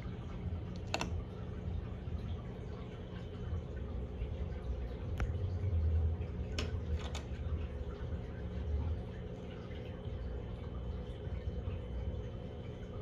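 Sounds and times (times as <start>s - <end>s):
aquarium equipment humming: 0.0s - 13.0s
faint water trickle: 0.0s - 13.0s.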